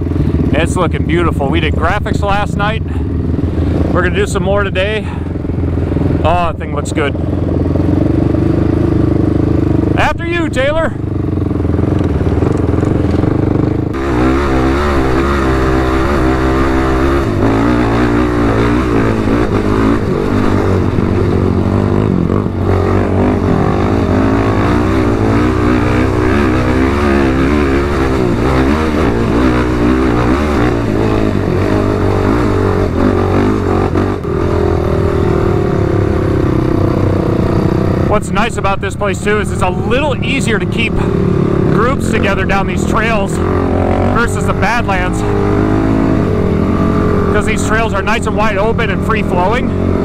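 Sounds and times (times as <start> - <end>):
atv engine revving: 0.0 - 50.0.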